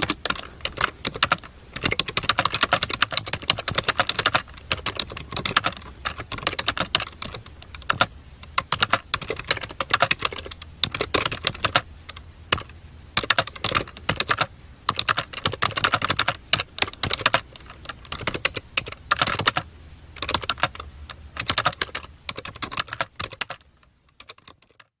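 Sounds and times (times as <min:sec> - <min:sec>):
typing on keyboard: 0:00.0 - 0:25.0.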